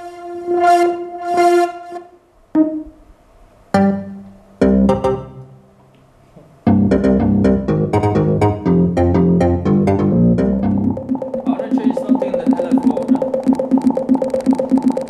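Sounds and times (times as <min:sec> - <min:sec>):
synthesizer notes and chords: 0:00.0 - 0:03.1, 0:03.7 - 0:05.6, 0:06.7 - 0:15.0.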